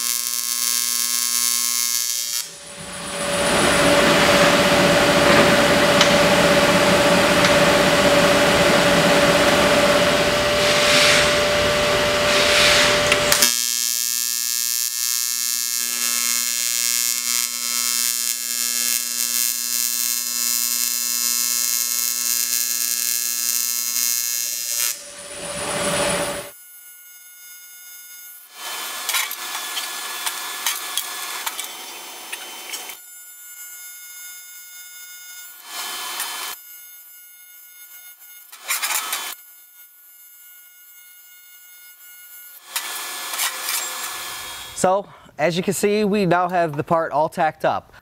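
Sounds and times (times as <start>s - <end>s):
welding arc buzzing: 0.0s - 44.9s.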